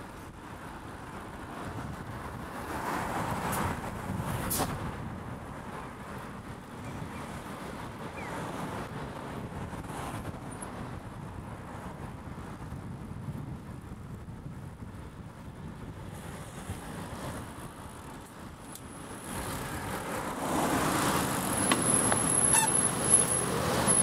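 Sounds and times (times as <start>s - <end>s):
road traffic: 0.0s - 24.0s
wind rumbling on microphone: 0.0s - 24.0s.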